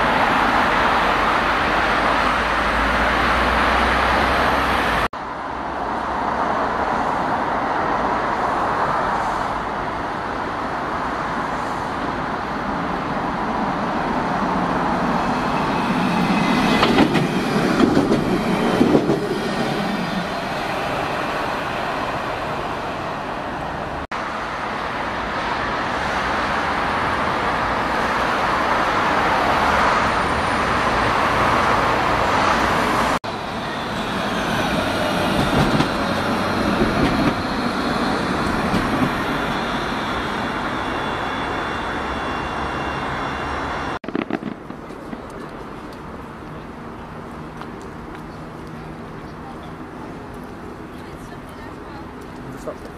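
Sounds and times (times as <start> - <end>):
tram rumbling on rails: 0.0 - 52.9.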